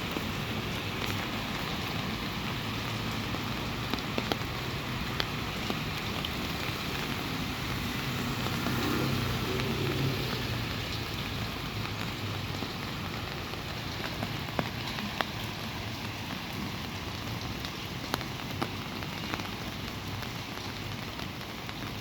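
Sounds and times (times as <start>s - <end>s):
rain hissing on surfaces: 0.0s - 22.0s
sharp water drips: 0.0s - 22.0s.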